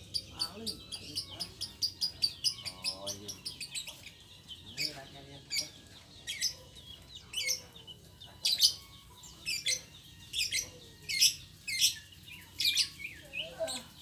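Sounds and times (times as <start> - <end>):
caged birds chirping: 0.0 - 14.0.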